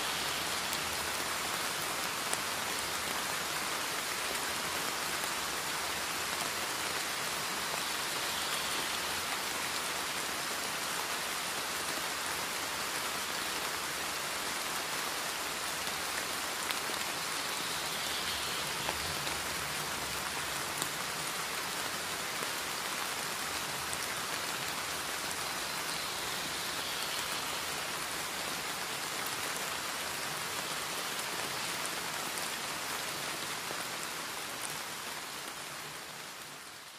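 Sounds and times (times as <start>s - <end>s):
steady rain: 0.0s - 36.9s.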